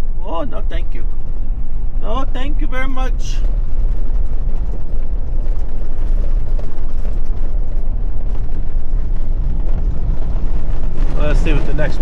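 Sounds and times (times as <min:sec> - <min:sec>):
truck driving on unpaved road: 0:00.0 - 0:12.0.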